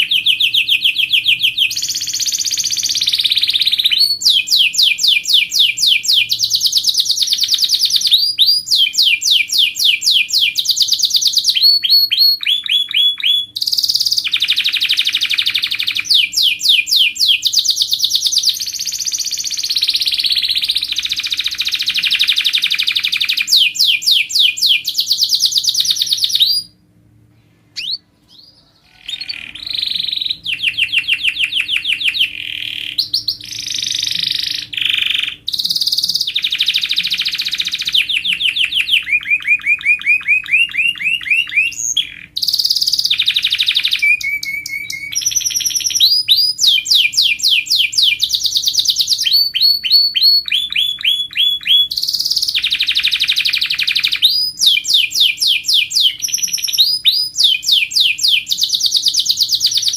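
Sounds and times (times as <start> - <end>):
canary singing in fast trills: 0.0 - 26.8, 27.8 - 59.9.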